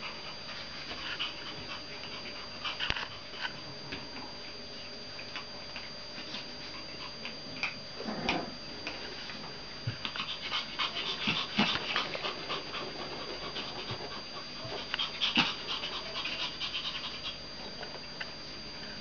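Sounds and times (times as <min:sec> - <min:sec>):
puppies panting and scuffling: 0:00.0 - 0:07.9, 0:08.8 - 0:18.3.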